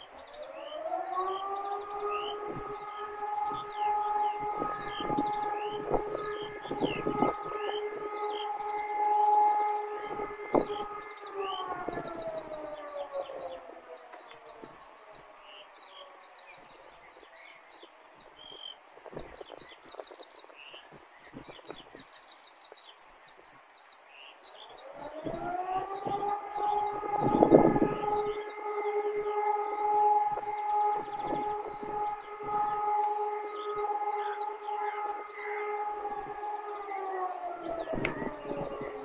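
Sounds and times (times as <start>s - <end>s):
siren wailing: 0.0s - 20.2s, 24.5s - 39.0s
birds chirping: 0.0s - 39.0s.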